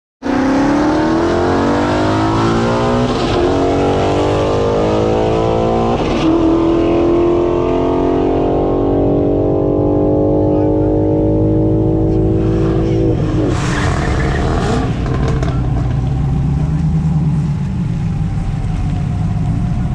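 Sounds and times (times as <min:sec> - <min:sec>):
car engine at full throttle: 0:00.2 - 0:19.9.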